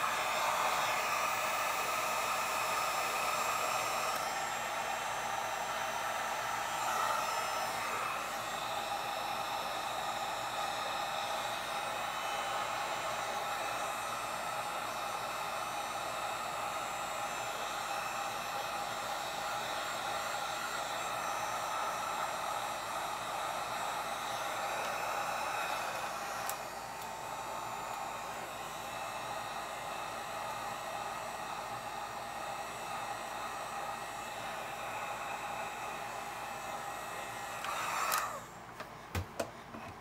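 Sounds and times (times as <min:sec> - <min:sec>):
heat gun whirring: 0:00.0 - 0:40.0.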